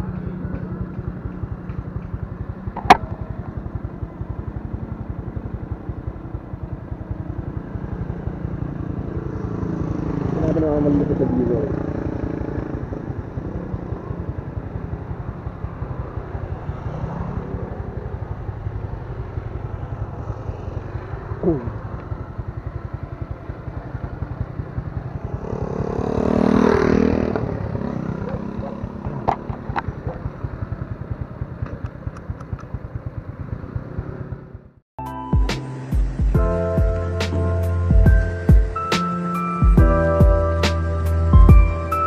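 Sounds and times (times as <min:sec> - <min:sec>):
motorcycle engine running: 0:00.0 - 0:34.8, 0:35.7 - 0:42.0.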